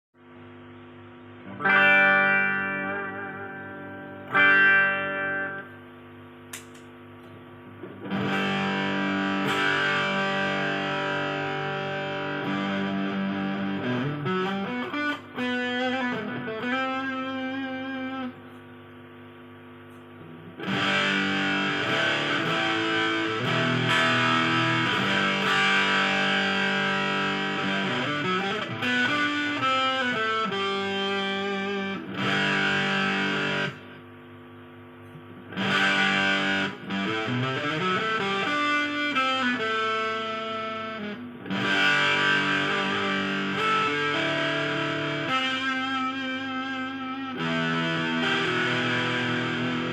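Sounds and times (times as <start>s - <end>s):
distorted electric guitar: 0.3s - 49.9s.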